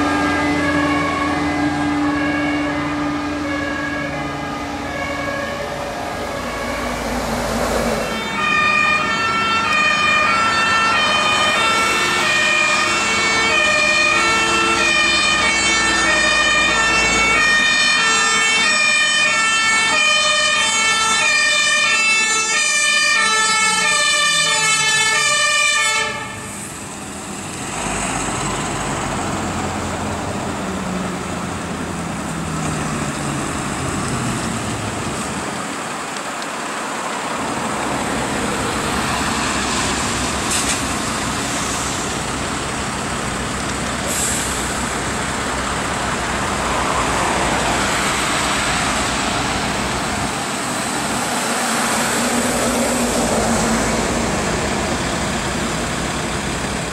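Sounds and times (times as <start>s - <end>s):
two-tone fire engine sirens: 0.0s - 27.2s, 27.8s - 56.9s
diesel engines passing: 0.0s - 56.9s.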